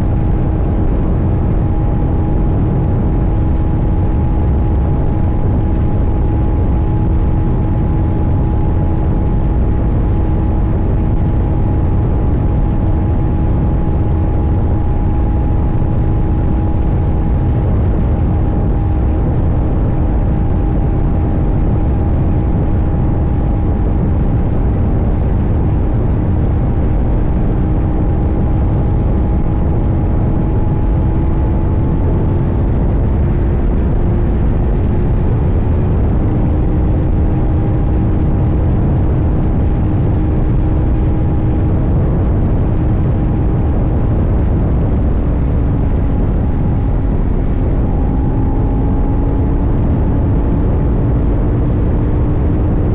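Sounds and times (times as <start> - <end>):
motorcycle engine cruising: 0.0 - 42.0, 42.7 - 52.9
low rumble of wind and road: 0.0 - 52.9.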